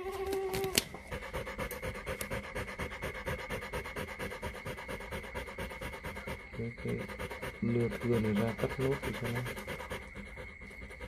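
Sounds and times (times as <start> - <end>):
dog panting rapidly: 1.0 - 11.0.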